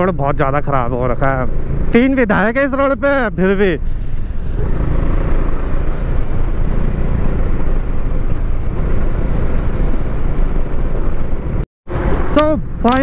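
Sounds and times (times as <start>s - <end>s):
motorcycle engine: 0.2s - 13.0s.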